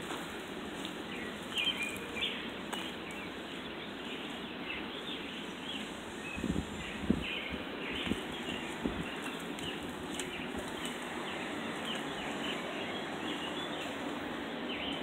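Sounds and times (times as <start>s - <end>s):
outdoor background rush: 0.0s - 15.0s
small birds chirping: 0.0s - 15.0s.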